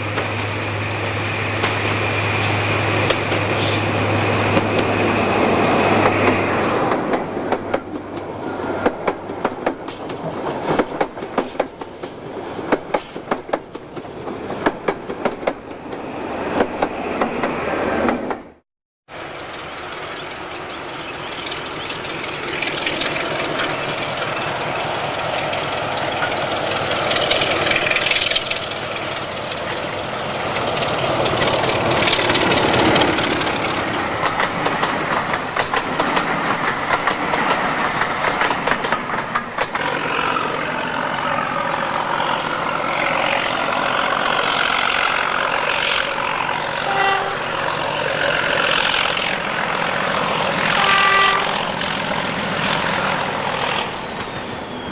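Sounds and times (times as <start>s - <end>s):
train wheels rolling on rails: 0.0s - 18.6s, 19.2s - 54.9s
diesel locomotive engine: 0.0s - 54.9s.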